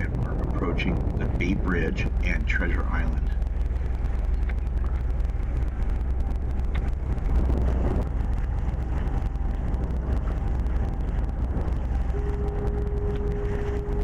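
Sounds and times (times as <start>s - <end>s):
boat engine rumbling: 0.0s - 14.0s
water wash: 0.0s - 14.0s
wind noise: 0.0s - 14.0s.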